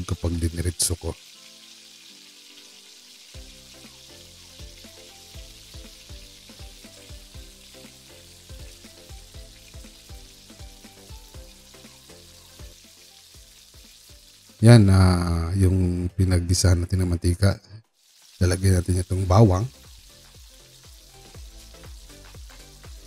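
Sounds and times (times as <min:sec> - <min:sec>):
oil sizzling in frying pan: 0:00.0 - 0:15.5, 0:17.8 - 0:23.0
soft background music with beat: 0:00.0 - 0:16.0, 0:19.5 - 0:23.0.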